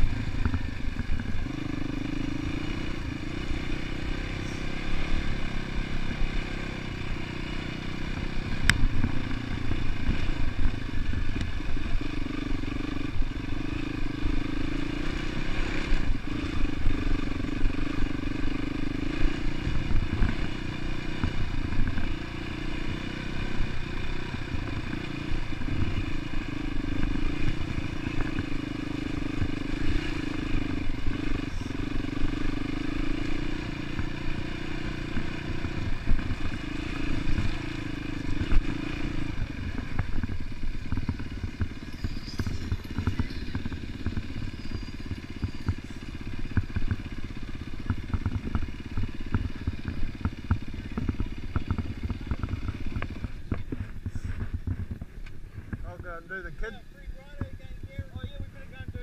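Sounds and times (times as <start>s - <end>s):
dirt bike engine running: 0.0s - 59.0s
knocks and rattles from bike: 0.0s - 59.0s.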